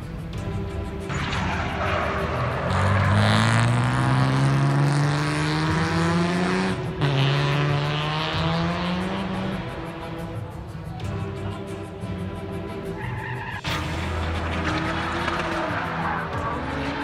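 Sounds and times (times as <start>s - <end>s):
car engine revving: 1.0s - 10.8s, 12.9s - 17.0s.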